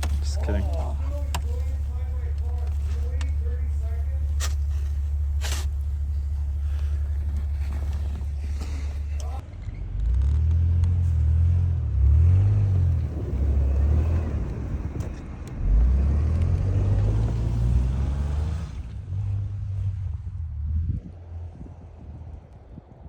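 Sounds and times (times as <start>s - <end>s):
vehicle engine revving: 0.0s - 21.6s.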